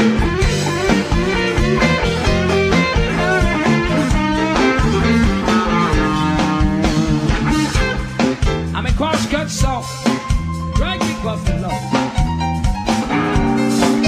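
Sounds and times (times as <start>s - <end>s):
drums: 0.0s - 14.0s
electric blues band playing: 0.0s - 14.0s
electric guitar with bent notes: 0.0s - 14.0s
steady bass: 0.0s - 14.0s.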